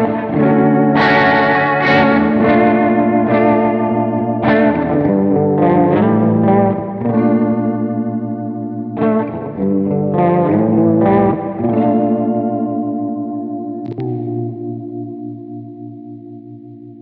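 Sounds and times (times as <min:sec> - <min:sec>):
electric guitar chords with chorus: 0:00.0 - 0:17.0.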